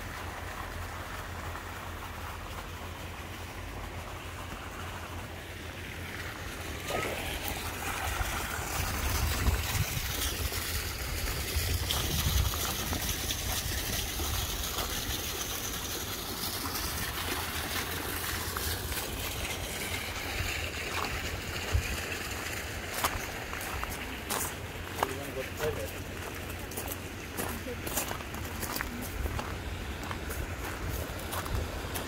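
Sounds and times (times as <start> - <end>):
fountain splashing water: 0.0 - 32.0.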